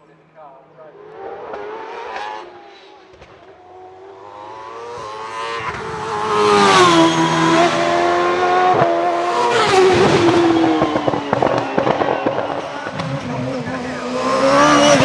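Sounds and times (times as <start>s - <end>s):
race car engine at full throttle: 0.0s - 15.0s.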